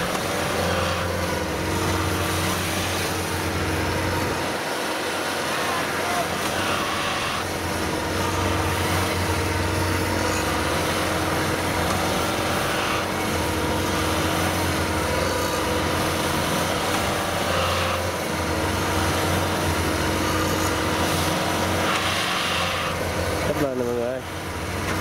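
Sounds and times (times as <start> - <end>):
diesel engines under heavy load: 0.0 - 25.0.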